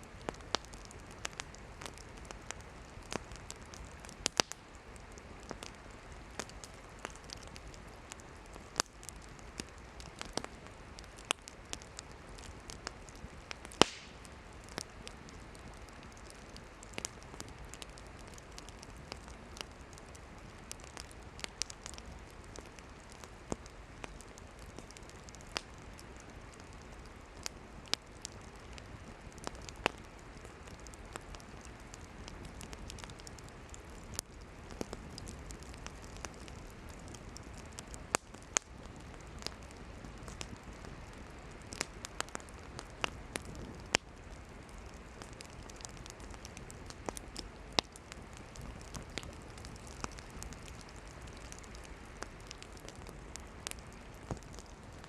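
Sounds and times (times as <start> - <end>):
campfire crackling and popping: 0.0 - 55.0
soft hiss of flames: 0.0 - 55.0.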